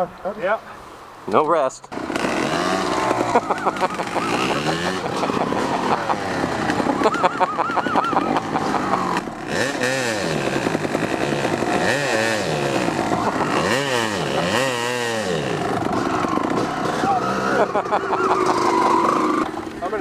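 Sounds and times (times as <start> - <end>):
dirt bike engine revving: 1.9 - 20.0.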